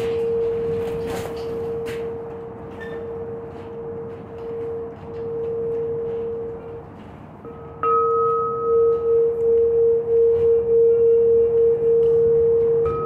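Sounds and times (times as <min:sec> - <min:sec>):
singing bowl tone: 0:00.0 - 0:06.8, 0:07.4 - 0:13.0.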